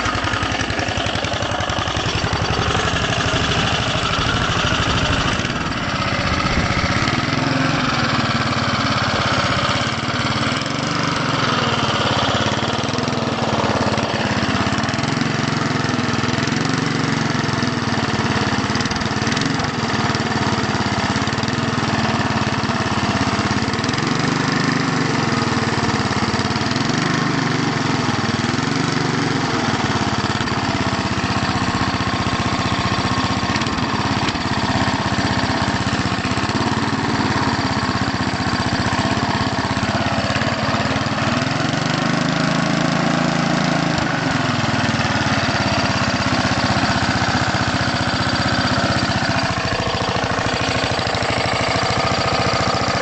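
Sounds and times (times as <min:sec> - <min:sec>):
lawn mower engine revving: 0:00.0 - 0:53.0.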